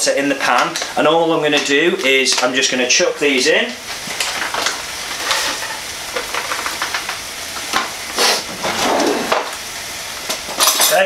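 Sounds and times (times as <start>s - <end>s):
water sizzling in saucepan: 0.0s - 11.0s.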